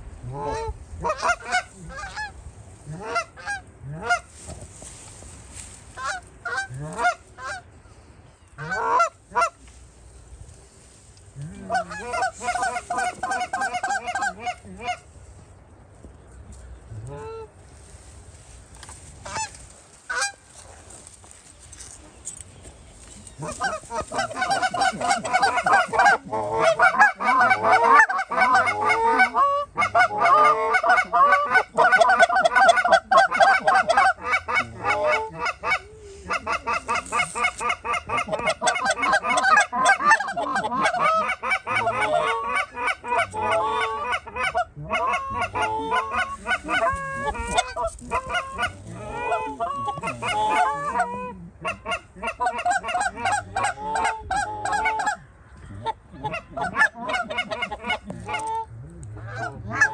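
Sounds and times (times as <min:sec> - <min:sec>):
geese honking: 0:00.3 - 0:04.3, 0:05.9 - 0:07.7, 0:08.6 - 0:09.7, 0:11.4 - 0:15.1, 0:17.0 - 0:17.5, 0:18.8 - 0:20.6, 0:23.0 - 0:59.9.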